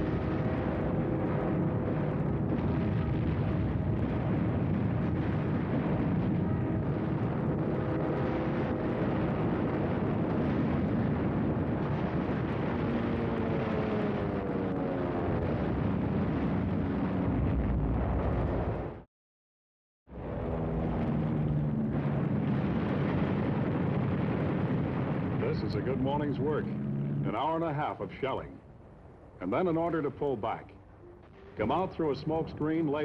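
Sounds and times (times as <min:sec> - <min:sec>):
tank engines rumbling: 0:00.0 - 0:17.2, 0:20.2 - 0:33.0.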